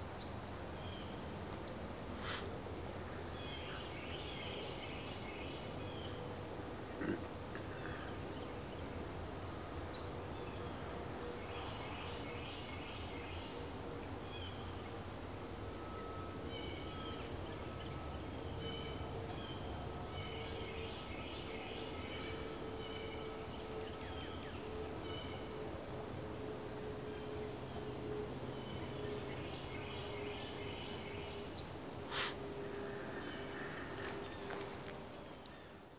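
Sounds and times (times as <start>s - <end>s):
faint steady hum: 0.0s - 35.9s
steady background noise: 0.0s - 35.9s.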